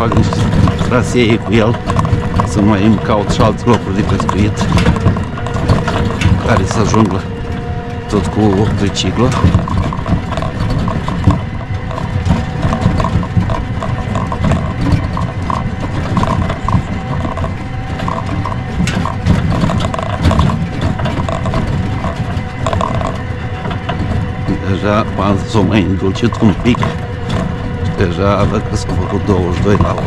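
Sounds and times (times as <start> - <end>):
motor tricycle engine under load: 0.0 - 30.0
vehicle knocks and rattles: 0.0 - 30.0.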